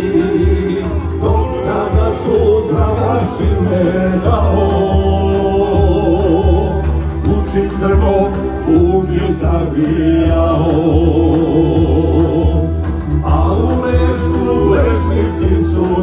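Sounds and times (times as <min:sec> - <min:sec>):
low instrumental accompaniment: 0:00.0 - 0:16.0
person singing ornamented melody: 0:00.0 - 0:16.0.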